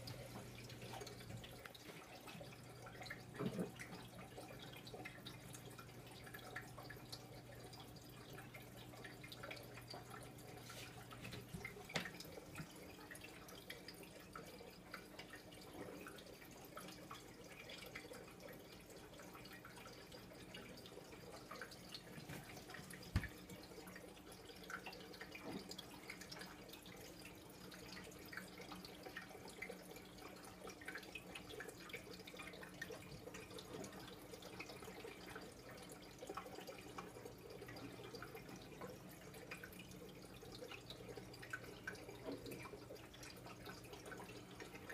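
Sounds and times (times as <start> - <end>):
aquarium water trickling: 0.0 - 44.9.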